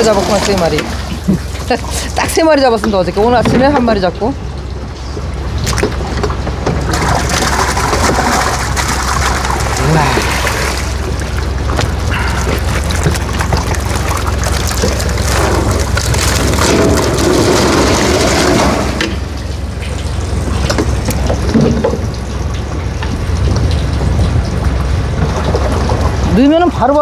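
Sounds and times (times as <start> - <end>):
low hum: 0.0 - 26.4
water gushing and splashing: 0.0 - 27.0.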